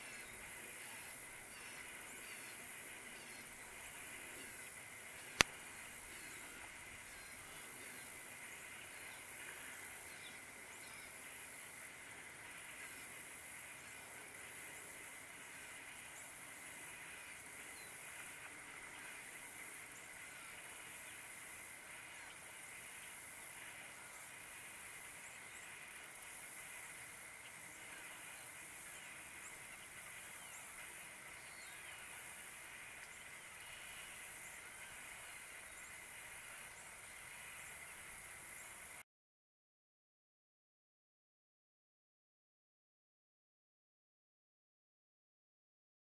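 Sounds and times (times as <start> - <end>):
steady high hiss: 0.0 - 39.0.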